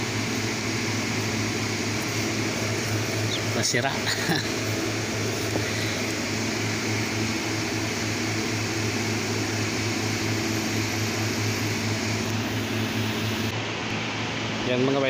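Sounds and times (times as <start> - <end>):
whirring machine hum: 0.0 - 15.0.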